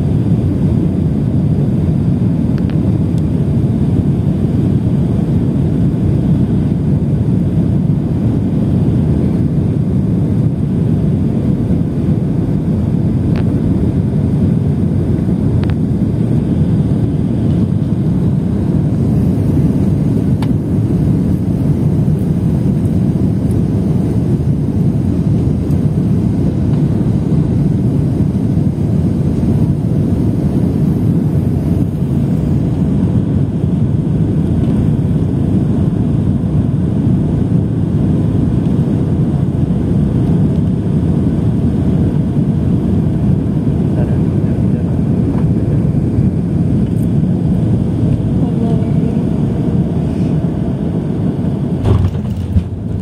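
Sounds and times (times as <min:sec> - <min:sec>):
airliner engine rumble: 0:00.0 - 0:53.0.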